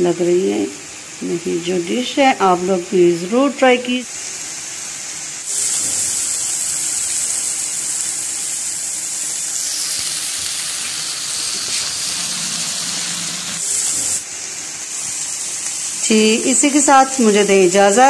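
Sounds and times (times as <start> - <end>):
curry sizzling in a frying pan: 0.2 - 18.0.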